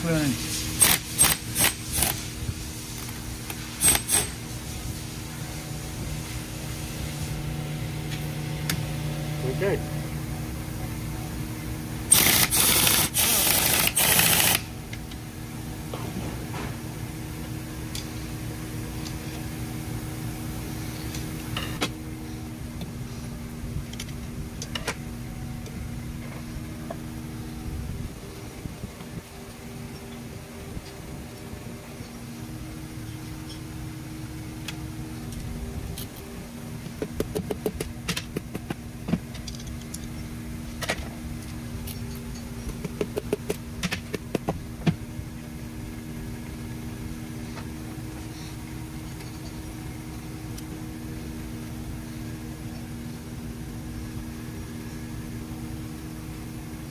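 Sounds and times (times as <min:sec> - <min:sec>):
shop machinery hum: 0:00.0 - 0:56.9.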